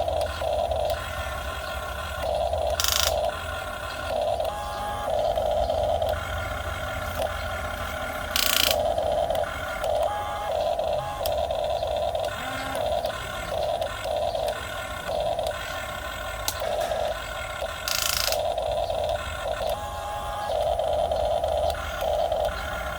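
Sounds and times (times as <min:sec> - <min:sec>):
electric motors whining: 0:00.0 - 0:22.9.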